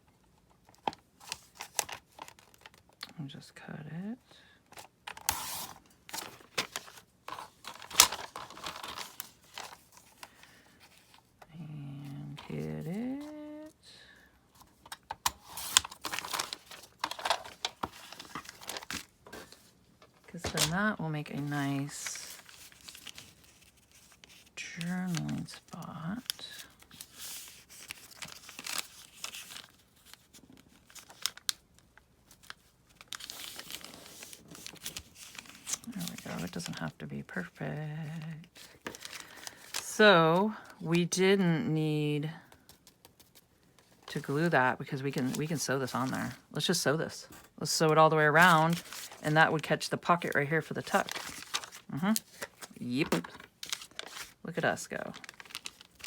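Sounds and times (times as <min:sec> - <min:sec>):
paper rustling and crinkling: 0:00.6 - 0:03.0, 0:04.7 - 0:13.7, 0:14.6 - 0:37.0, 0:38.0 - 0:40.8, 0:42.5 - 0:46.5, 0:48.3 - 0:56.0.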